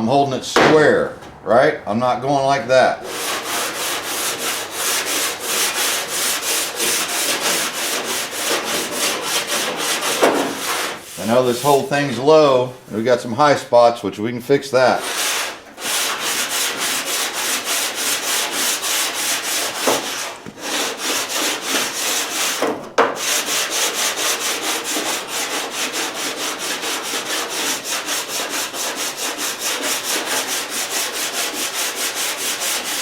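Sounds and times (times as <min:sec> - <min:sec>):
sandpaper rubbing on metal panel: 0:03.0 - 0:12.5, 0:14.9 - 0:33.0.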